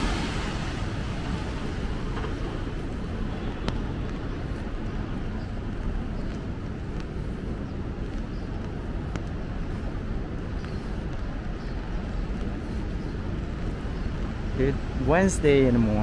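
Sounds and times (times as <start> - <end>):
traffic on wet streets: 0.0 - 16.0.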